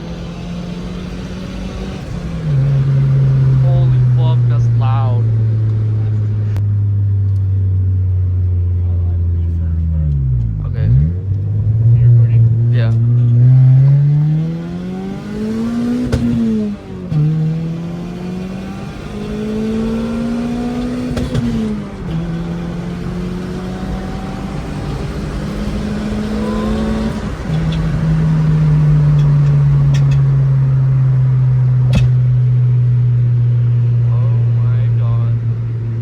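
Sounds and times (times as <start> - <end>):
car engine accelerating through gears: 0.0 - 36.0.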